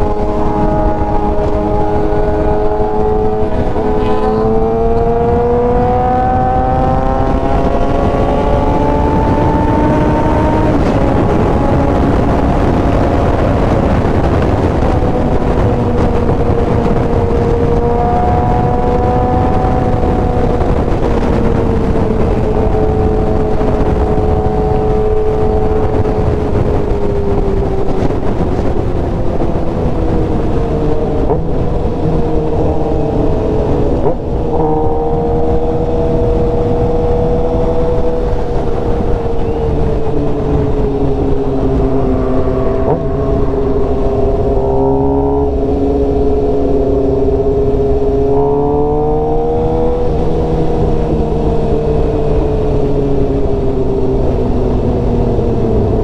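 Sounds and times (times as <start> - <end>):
heavy wind noise: 0.0 - 56.0
motorcycle engine accelerating: 0.0 - 56.0.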